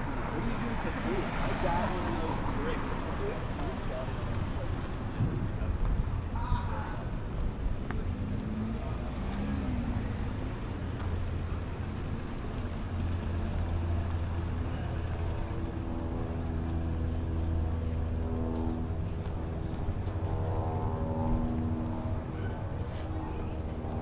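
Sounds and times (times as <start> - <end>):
low traffic engine rumble: 0.0 - 24.0
nearby vehicle engine hum: 0.0 - 24.0.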